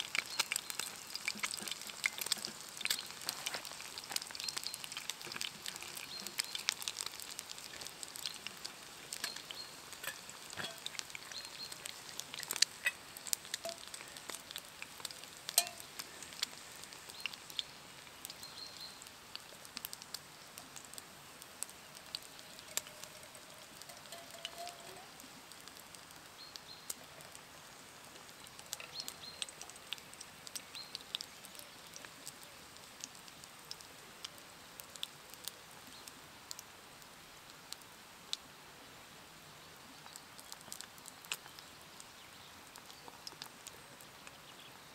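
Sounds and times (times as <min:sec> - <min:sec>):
meat and egg sizzling: 0:00.0 - 0:44.9
wood fire crackling: 0:00.0 - 0:44.9.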